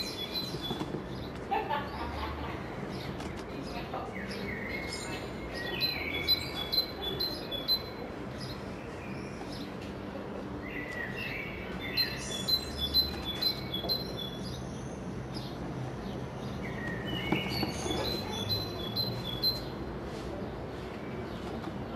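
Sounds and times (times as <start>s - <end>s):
bird chirping: 0.0s - 21.9s.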